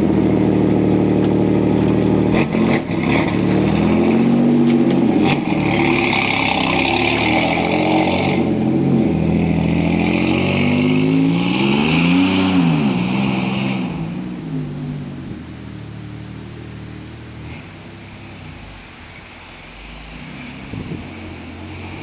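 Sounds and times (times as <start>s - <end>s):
pickup engine revving: 0.0s - 22.0s.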